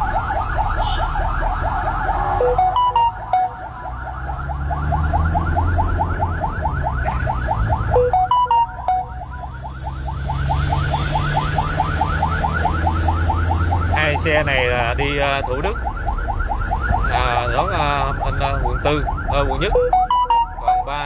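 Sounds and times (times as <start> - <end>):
siren yelping: 0.0 - 21.0
vehicle engine humming: 0.0 - 21.0.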